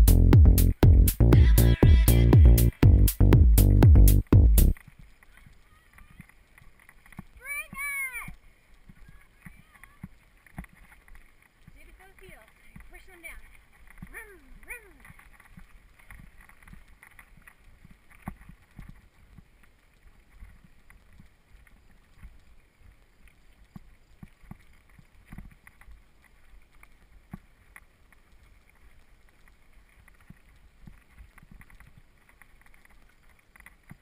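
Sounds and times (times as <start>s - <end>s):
bike tyres rolling over gravel: 4.7s - 34.0s.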